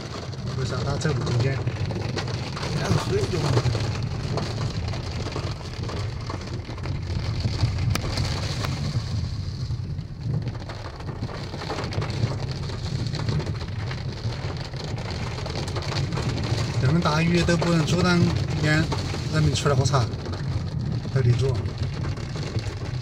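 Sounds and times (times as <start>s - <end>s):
heavy rain on car roof: 0.0s - 23.0s
low rumble: 0.0s - 23.0s.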